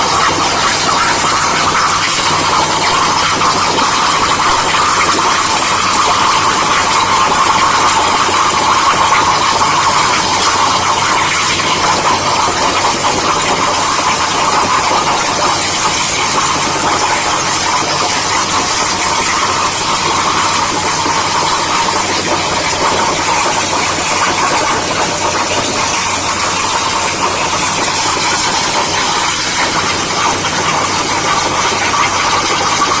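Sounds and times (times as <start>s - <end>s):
plasma cutter hissing: 0.0s - 33.0s.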